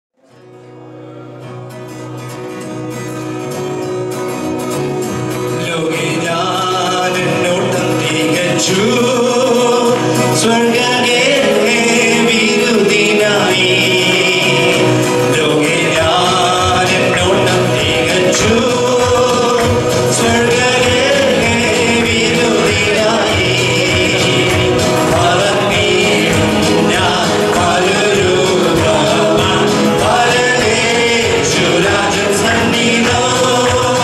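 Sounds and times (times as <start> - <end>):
worship band playing: 0.2 - 34.0
people singing: 5.5 - 34.0.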